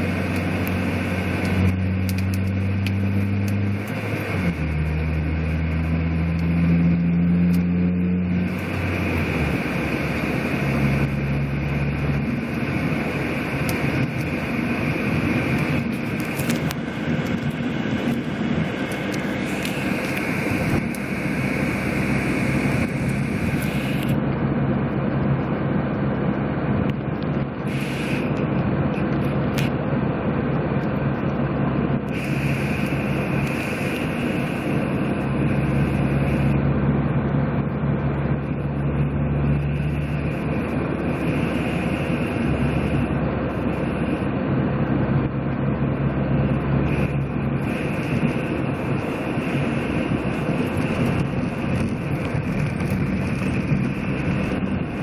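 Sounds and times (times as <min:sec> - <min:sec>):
car engine hum: 0:00.0 - 0:55.0
road noise: 0:00.0 - 0:55.0.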